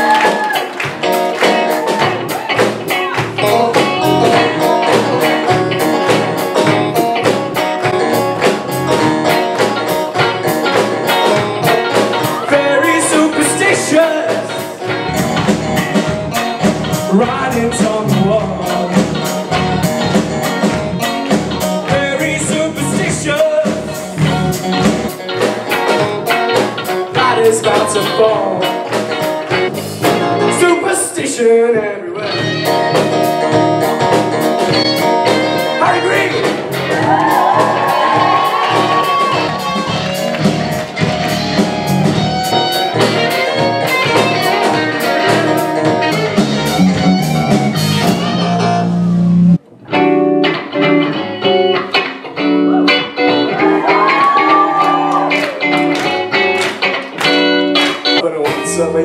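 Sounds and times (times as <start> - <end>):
bass line: 0.0 - 31.6, 32.2 - 51.9
live rock band playing: 0.0 - 59.0.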